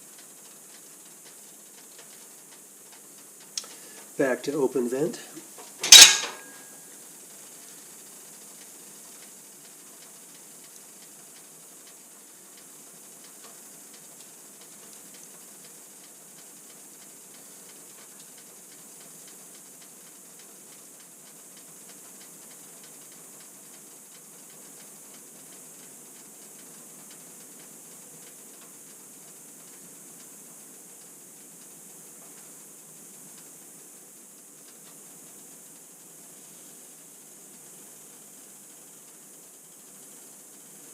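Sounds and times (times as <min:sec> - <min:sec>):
fire crackling: 0:00.0 - 0:40.9
wood stove draft hissing: 0:00.0 - 0:40.9.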